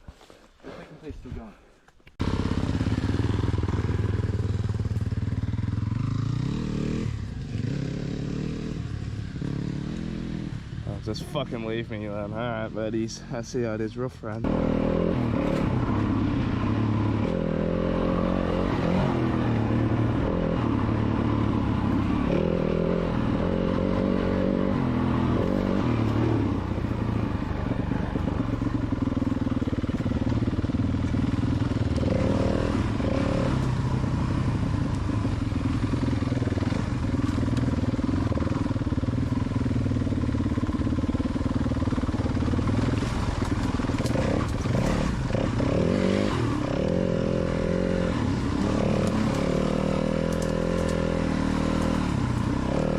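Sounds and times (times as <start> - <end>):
dirt bike engine revving: 2.2 - 11.2, 14.4 - 52.9.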